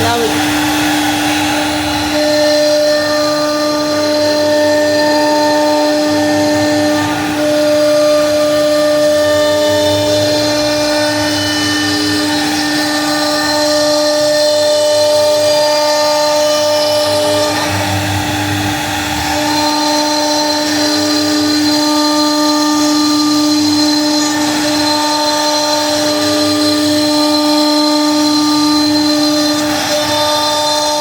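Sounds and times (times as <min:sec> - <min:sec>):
cnc router spindle whine: 0:00.0 - 0:31.0.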